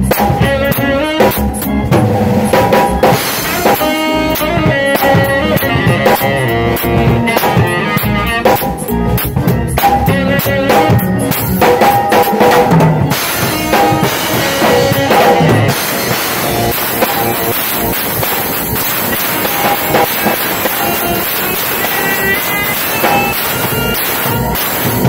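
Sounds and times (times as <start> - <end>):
band instruments: 0.0 - 25.0
drum kit playing a groove: 0.0 - 25.0.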